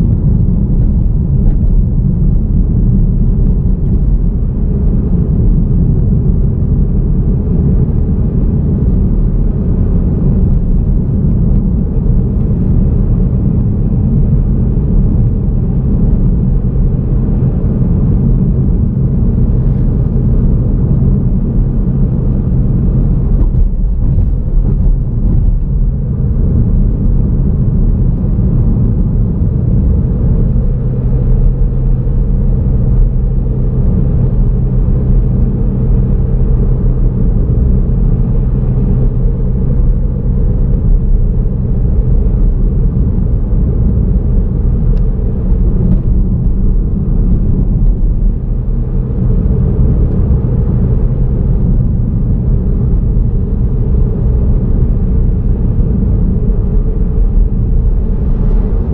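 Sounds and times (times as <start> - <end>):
car tyres and engine rumble: 0.0 - 58.9.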